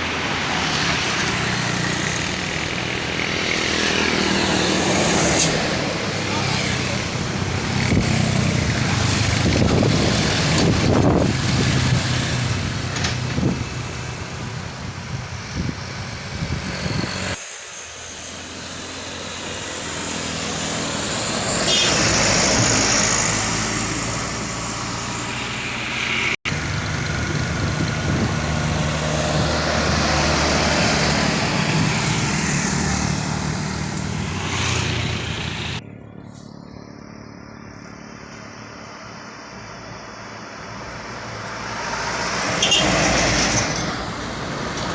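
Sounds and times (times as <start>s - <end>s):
diesel trucks labouring uphill: 0.0s - 44.9s.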